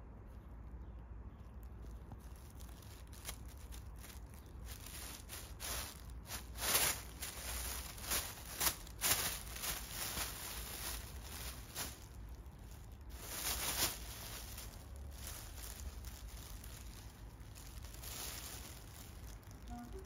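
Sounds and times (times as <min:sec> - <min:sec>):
plastic bin bag crinkling: 0:01.4 - 0:20.0.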